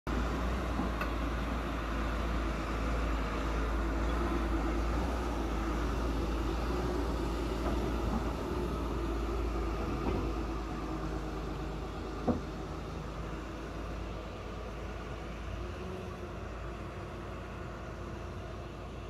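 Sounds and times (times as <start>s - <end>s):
excavator diesel engine running: 0.1s - 19.0s.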